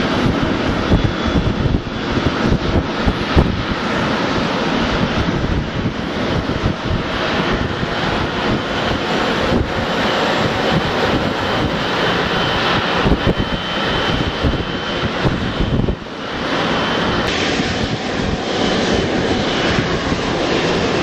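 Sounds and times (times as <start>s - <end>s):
jet engines high whine: 0.0s - 21.0s
taxiing airliner rumble: 0.0s - 21.0s.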